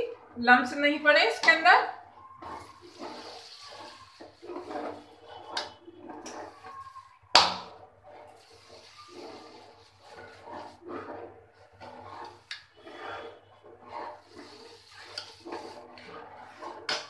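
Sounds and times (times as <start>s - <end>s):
metal spoon stirring water: 0.0s - 17.0s
water boiling in a pot: 0.0s - 17.0s.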